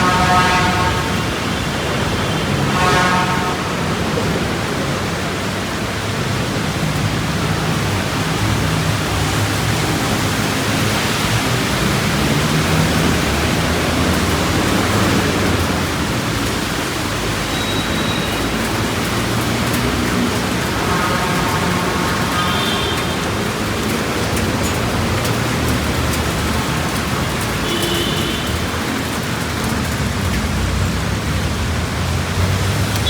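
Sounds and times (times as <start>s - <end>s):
engines rumbling: 0.0s - 33.0s
rain hissing: 0.0s - 33.0s
traffic on wet road: 0.0s - 33.0s.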